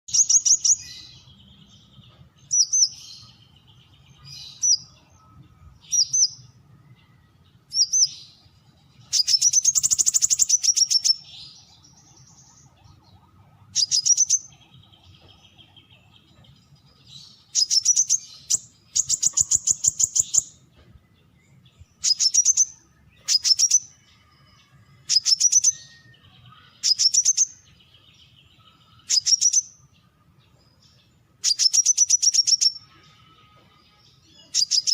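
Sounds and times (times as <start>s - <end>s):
sunbird singing: 0.1s - 34.9s.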